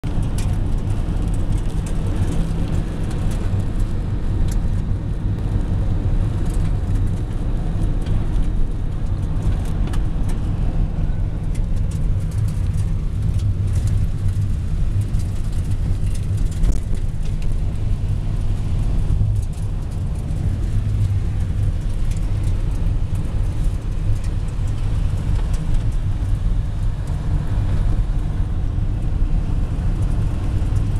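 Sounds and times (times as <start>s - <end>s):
engine and road rumble: 0.0s - 30.9s.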